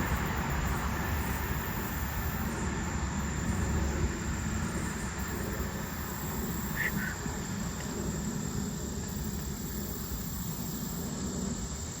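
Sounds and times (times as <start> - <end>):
light rain and wind hiss: 0.0 - 12.0.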